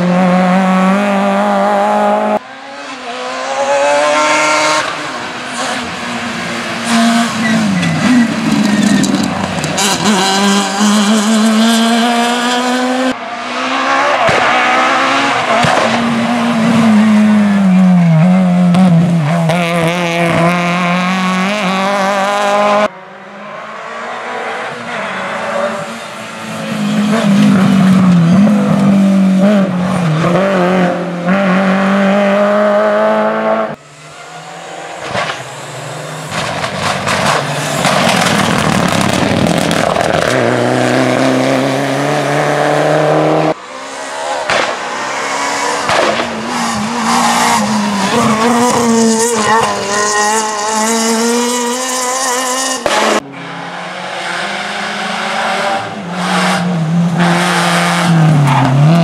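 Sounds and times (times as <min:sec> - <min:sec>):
rally cars revving past: 0:00.0 - 0:59.0.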